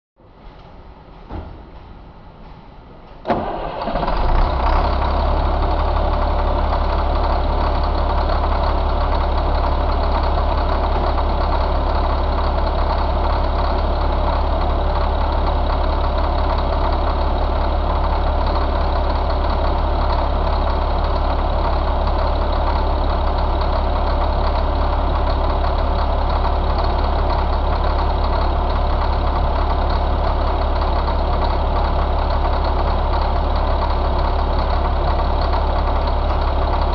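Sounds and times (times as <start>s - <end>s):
diesel engine starting and idling: 3.2s - 36.9s.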